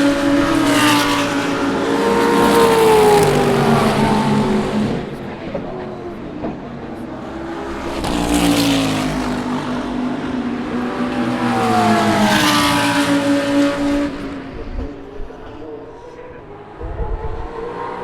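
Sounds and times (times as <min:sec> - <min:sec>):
race cars passing at speed: 0:00.0 - 0:18.0.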